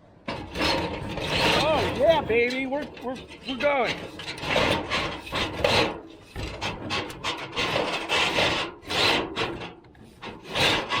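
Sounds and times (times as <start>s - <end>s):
metal pipe scraping in chimney: 0.2s - 11.0s.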